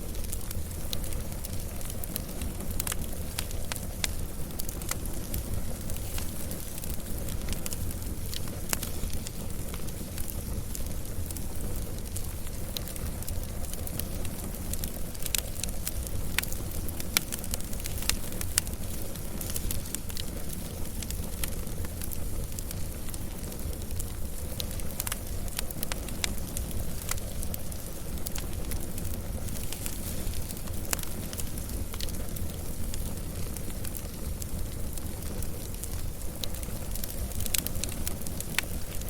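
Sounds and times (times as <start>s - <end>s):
low fire rumble: 0.0s - 39.0s
wood fire crackling and popping: 0.0s - 39.0s.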